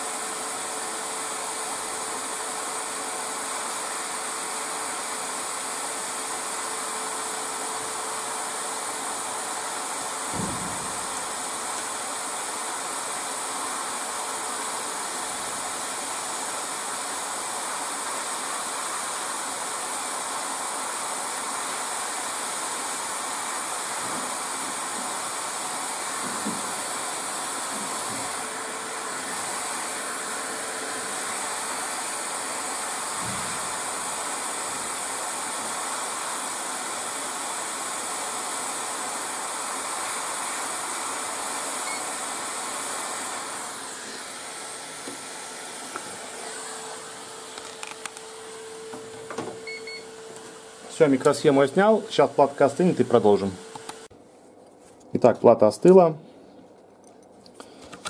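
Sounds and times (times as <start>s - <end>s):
hot air blowing hiss: 0.0s - 54.1s.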